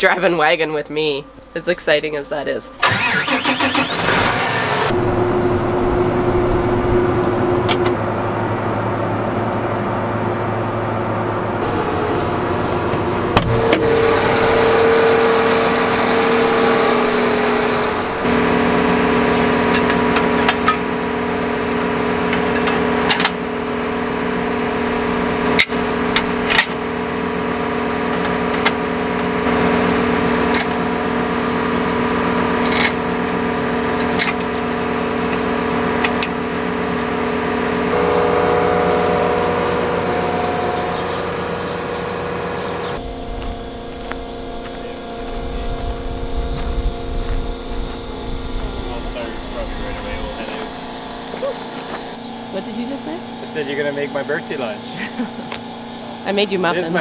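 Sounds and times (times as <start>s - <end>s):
tractor diesel engine running: 2.7s - 57.0s.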